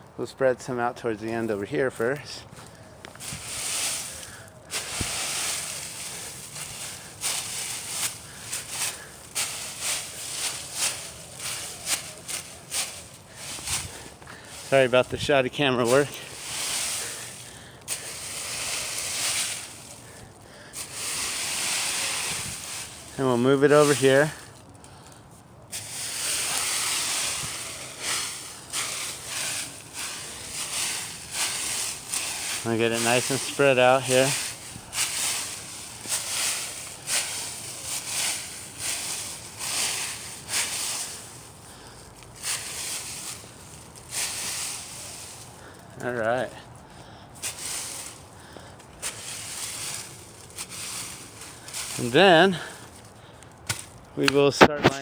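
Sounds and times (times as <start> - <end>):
rake dragging through dry leaves: 1.2 - 55.0.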